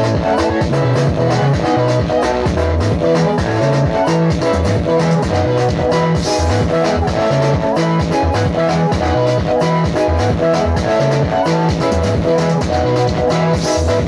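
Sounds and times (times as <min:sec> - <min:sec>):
upbeat gospel dance music: 0:00.0 - 0:14.0.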